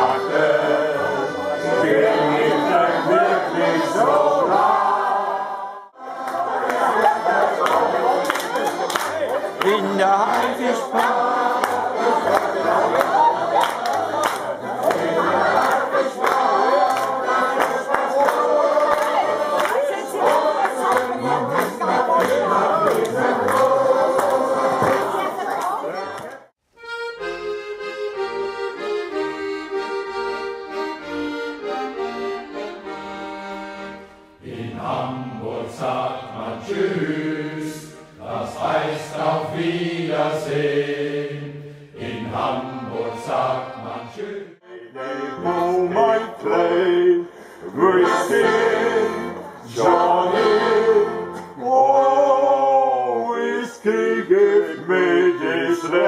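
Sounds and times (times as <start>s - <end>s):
choir singing: 0.0s - 26.2s, 30.2s - 56.0s
accordion playing a melody: 0.0s - 51.9s, 53.9s - 56.0s.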